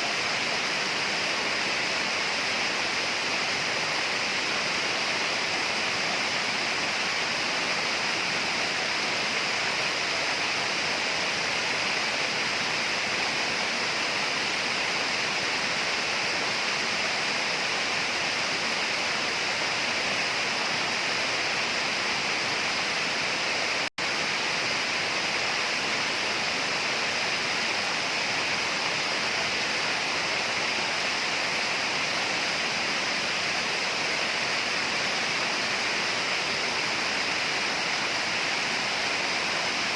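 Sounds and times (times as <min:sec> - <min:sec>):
rainforest ambience hiss: 0:00.0 - 0:39.9.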